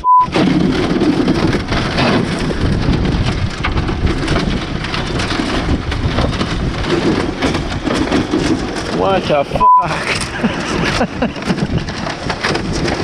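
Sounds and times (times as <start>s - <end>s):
strong wind buffeting microphone: 0.3s - 13.0s.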